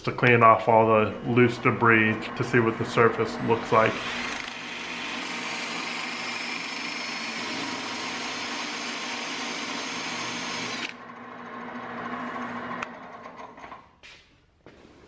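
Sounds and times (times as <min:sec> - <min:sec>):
hum of machines: 0:00.0 - 0:15.0
wire wheel brushing whir: 0:00.2 - 0:13.9.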